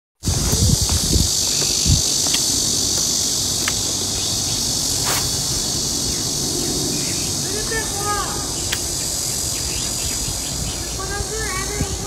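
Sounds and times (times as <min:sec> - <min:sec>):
insects buzzing: 0:00.2 - 0:12.0.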